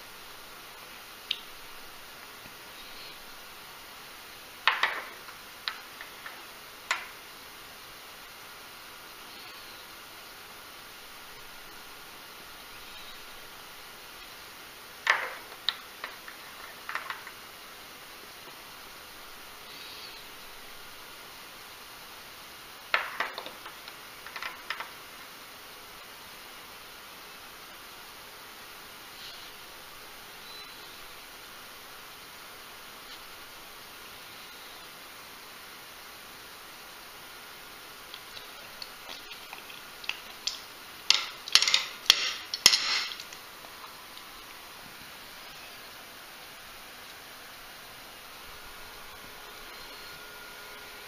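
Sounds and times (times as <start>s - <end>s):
steady low hiss: 0.0s - 51.0s.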